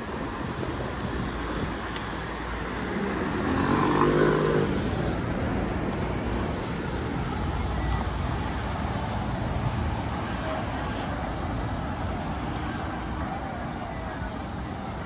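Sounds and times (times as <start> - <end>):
cars driving through intersection: 0.0 - 15.0
low wind: 0.0 - 15.0
passing engine hum: 0.0 - 15.0
road rumble: 0.0 - 15.0.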